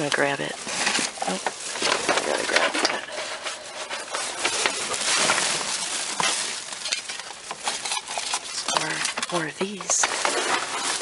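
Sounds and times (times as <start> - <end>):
items rummaged in a dumpster: 0.0 - 11.0.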